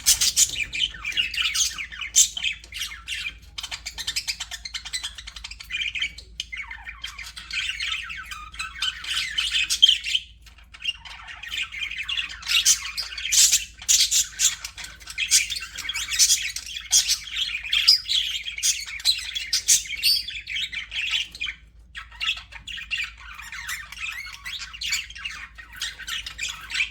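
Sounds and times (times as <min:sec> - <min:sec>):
budgerigars chattering and chirping: 0:00.0 - 0:26.9.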